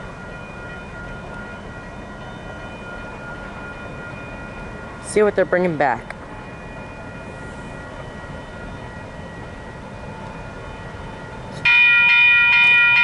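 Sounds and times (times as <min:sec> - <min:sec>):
crossing signal bells ringing: 0:00.0 - 0:13.0.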